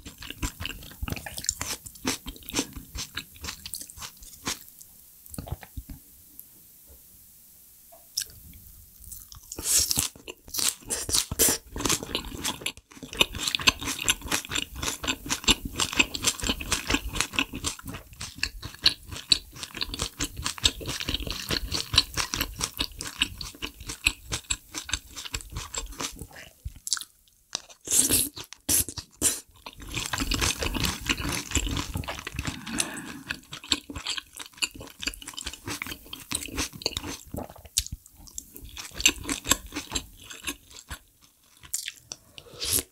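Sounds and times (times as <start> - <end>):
chewing and crunching food: 0.0 - 5.9, 9.0 - 42.9.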